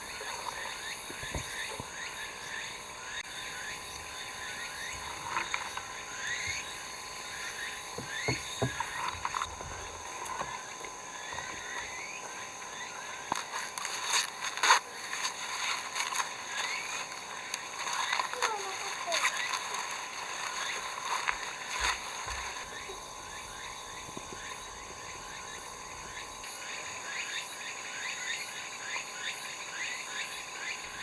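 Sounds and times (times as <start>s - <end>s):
steady high hum: 0.0s - 31.0s.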